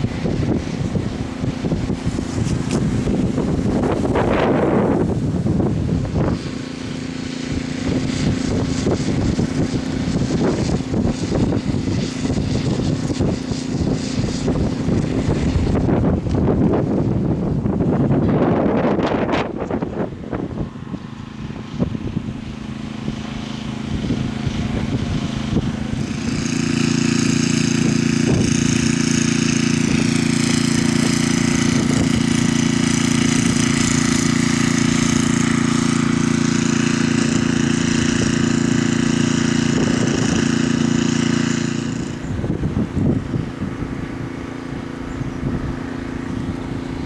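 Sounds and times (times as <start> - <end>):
motor running steadily: 0.0 - 47.0
wind-like noise: 0.0 - 47.0.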